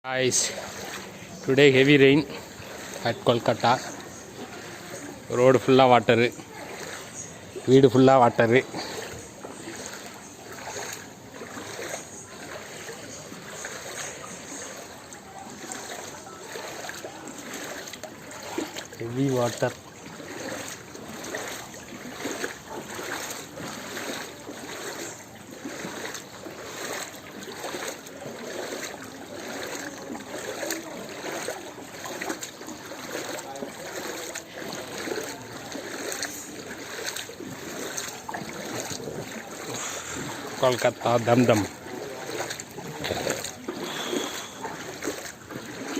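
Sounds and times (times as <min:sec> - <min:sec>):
water splashing: 0:00.0 - 0:45.9
water washing on flooded street: 0:00.0 - 0:45.9.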